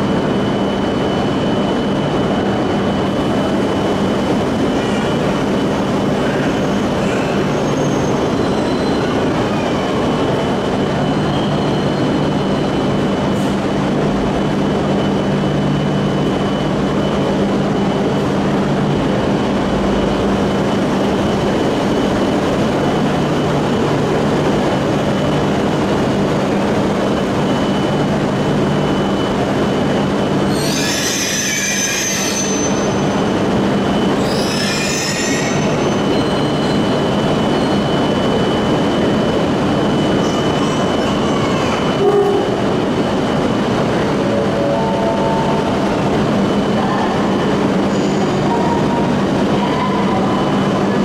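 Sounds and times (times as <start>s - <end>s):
train running hum with whine: 0.0s - 51.0s.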